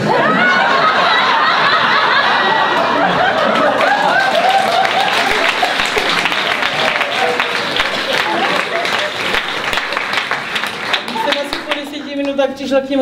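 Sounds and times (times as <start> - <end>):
audience laughing: 0.0 - 11.7
people clapping: 0.7 - 12.5.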